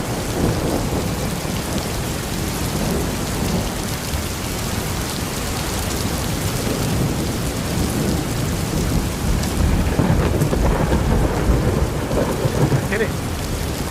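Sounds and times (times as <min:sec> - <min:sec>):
thunder rumbling: 0:00.0 - 0:04.3, 0:05.9 - 0:13.9
heavy rain: 0:00.0 - 0:13.9.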